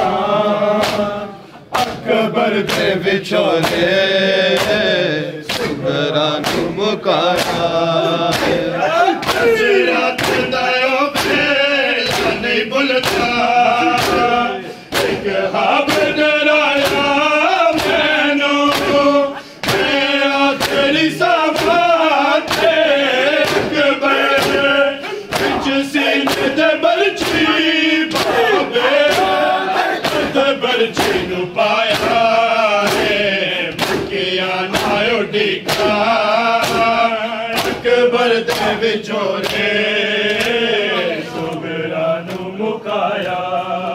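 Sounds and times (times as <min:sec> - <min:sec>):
men chanting in chorus: 0:00.0 - 0:43.9
hands slapping chests: 0:00.8 - 0:03.0, 0:03.6 - 0:38.8, 0:39.4 - 0:40.7.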